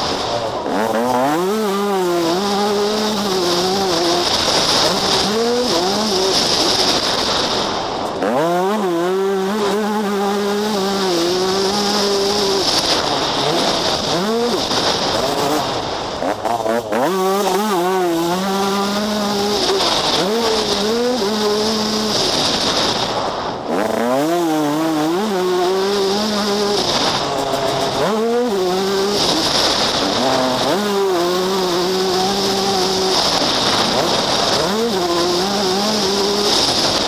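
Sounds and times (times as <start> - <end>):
motocross engine revving: 0.0 - 37.0.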